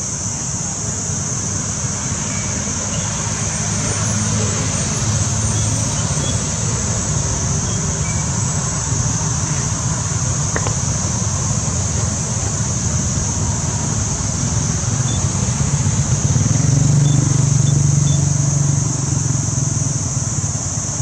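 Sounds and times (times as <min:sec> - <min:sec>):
high-pitched hiss: 0:00.0 - 0:21.0
vehicle engine rumble: 0:00.0 - 0:21.0.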